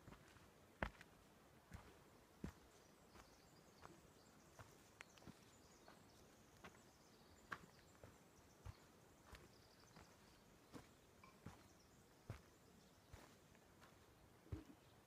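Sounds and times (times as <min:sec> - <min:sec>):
footsteps on dirt trail: 0:00.0 - 0:14.9.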